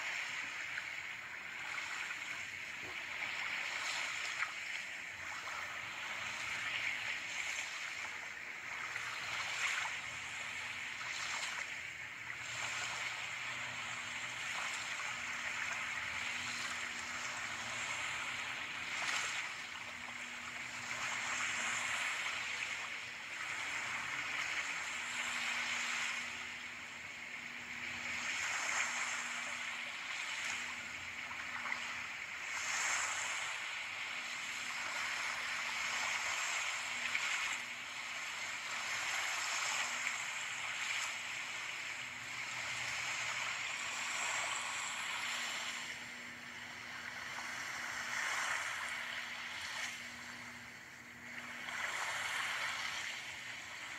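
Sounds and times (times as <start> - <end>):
faint steady hum: 0.0 - 53.9
ocean waves washing: 0.0 - 53.9.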